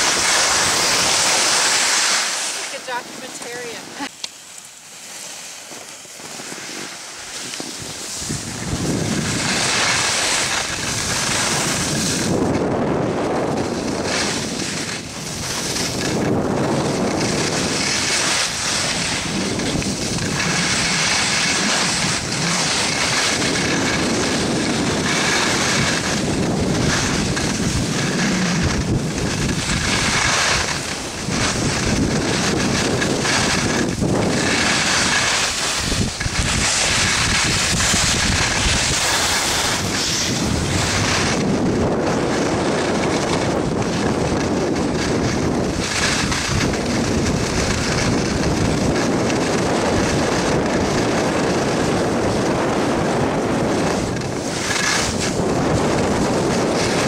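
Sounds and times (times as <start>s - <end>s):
wind buffeting microphone: 0.0s - 4.2s, 5.4s - 57.0s
skis scraping on snow: 0.0s - 57.0s.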